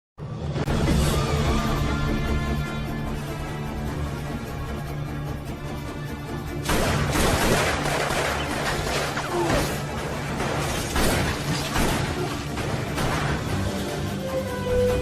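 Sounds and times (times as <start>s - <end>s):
dramatic film score music: 0.2s - 15.0s.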